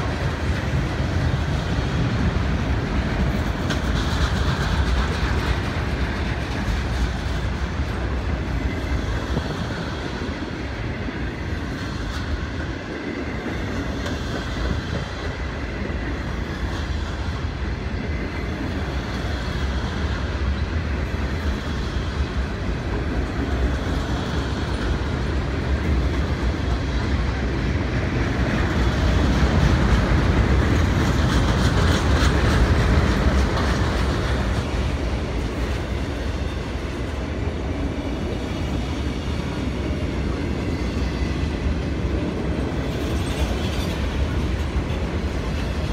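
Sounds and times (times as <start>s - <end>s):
freight train cars rolling past: 0.0s - 45.9s.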